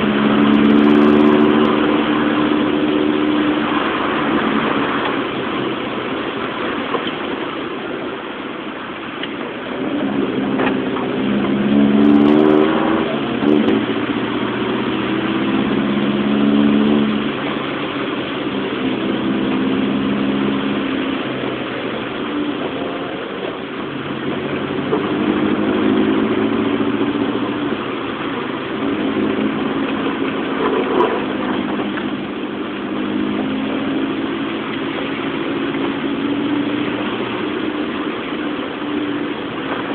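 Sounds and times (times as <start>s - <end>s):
car engine revving: 0.0s - 39.9s
rain and wet tyres hissing: 0.0s - 39.9s.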